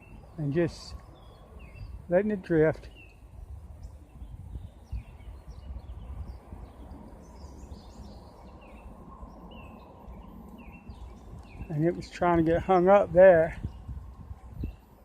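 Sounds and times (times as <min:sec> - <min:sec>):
low outdoor background noise: 0:00.0 - 0:15.0
small birds chirping: 0:00.0 - 0:15.0.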